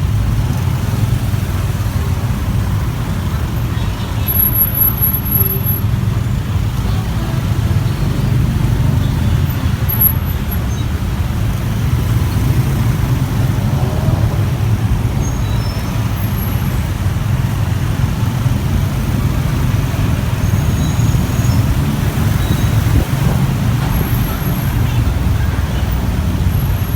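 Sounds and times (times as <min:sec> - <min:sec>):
motorbike engine rumble: 0:00.0 - 0:26.9
road noise: 0:00.0 - 0:26.9.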